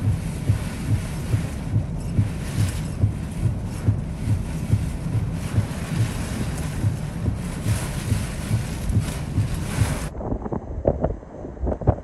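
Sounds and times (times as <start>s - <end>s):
regular low thump: 0.0s - 12.0s
strong wind and driving rain: 0.0s - 12.0s.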